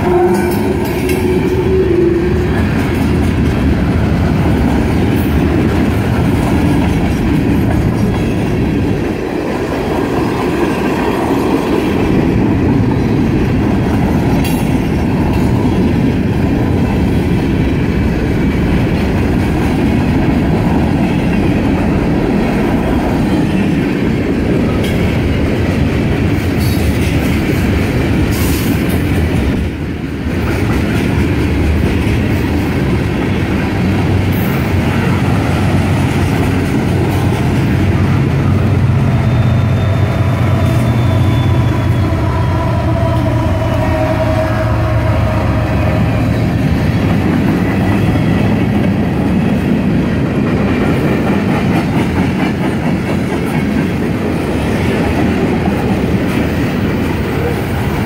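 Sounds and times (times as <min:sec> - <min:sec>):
freight train rumbling past: 0:00.0 - 0:58.0
clickety-clack over rail joints: 0:00.1 - 0:38.2, 0:46.6 - 0:58.0.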